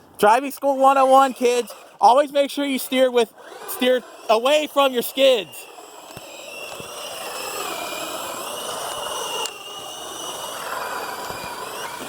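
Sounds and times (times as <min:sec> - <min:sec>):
toy truck electric motor whining: 0:00.5 - 0:12.0.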